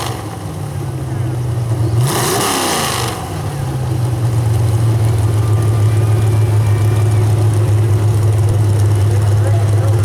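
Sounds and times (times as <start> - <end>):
truck engine idling: 0.0 - 2.1, 3.2 - 10.0.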